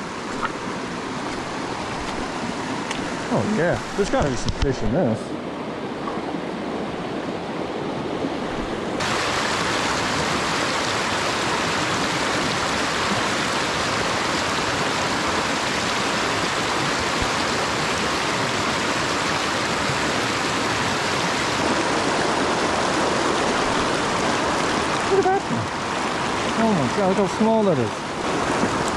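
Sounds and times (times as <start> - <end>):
creek rushing over rocks: 0.0 - 28.9.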